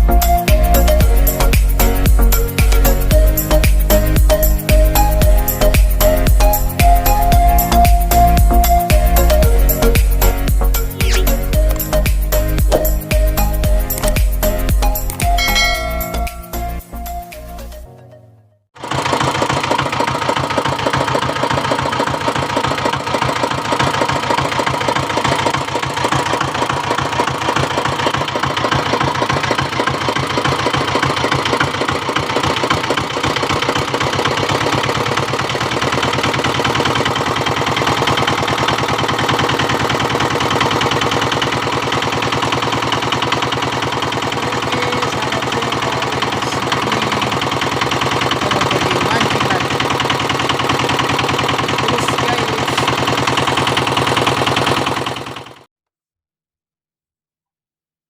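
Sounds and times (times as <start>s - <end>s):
boat engine knocking: 0.0s - 17.0s, 18.8s - 55.6s.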